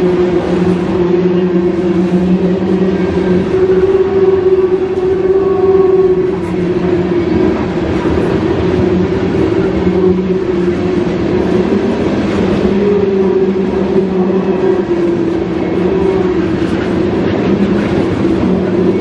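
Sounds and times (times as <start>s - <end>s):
low hum: 0.0s - 19.0s
train wheels on rails: 0.0s - 19.0s.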